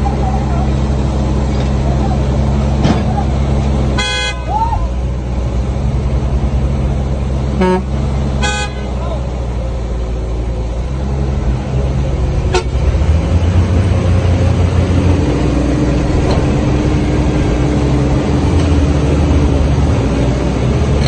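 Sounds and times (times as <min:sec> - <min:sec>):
diesel engines running under load: 0:00.0 - 0:21.0.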